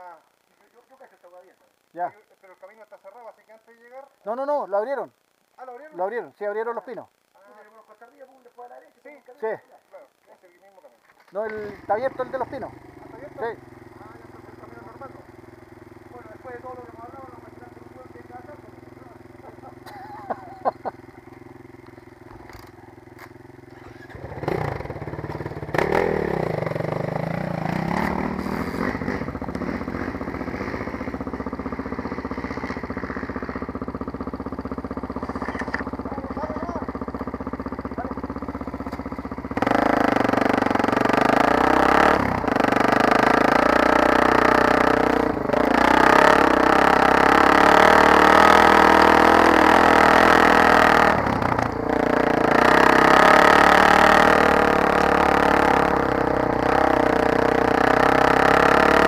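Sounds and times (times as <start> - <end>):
dirt bike engine revving: 11.5 - 59.0.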